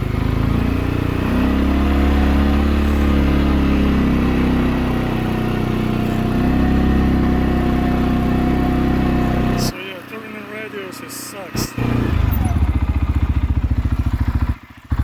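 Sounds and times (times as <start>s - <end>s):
atv engine under load: 0.0s - 15.0s.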